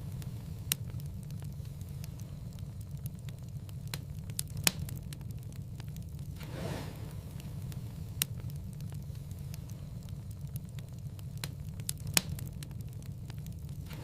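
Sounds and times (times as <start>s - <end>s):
fire crackling: 0.0s - 14.0s
fire low rumble: 0.0s - 14.0s
sharp fire pops: 0.0s - 14.0s.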